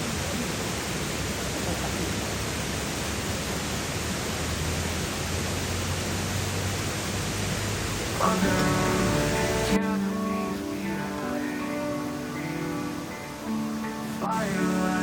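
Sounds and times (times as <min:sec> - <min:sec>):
waterfall stream rushing: 0:00.0 - 0:15.0.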